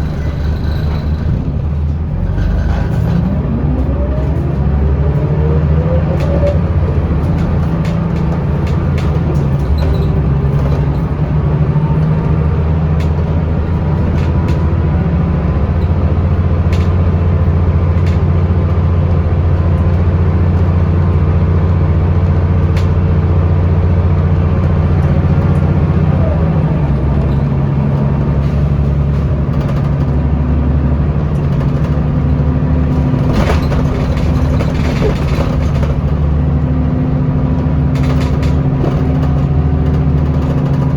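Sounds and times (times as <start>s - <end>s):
bus body rattles and clicks: 0.0s - 40.9s
bus engine droning: 0.0s - 40.9s.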